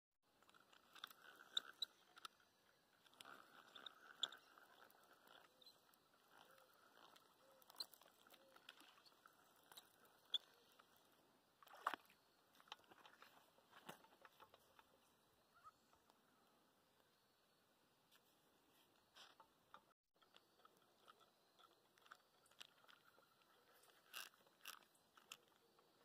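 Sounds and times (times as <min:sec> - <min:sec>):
faint clicks and crackles: 0:00.3 - 0:15.2, 0:18.1 - 0:26.0
riverside ambience: 0:00.3 - 0:26.0.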